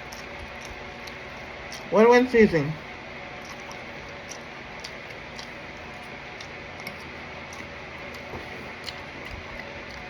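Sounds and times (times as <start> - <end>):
person chewing: 0.0 - 1.9, 3.4 - 10.0.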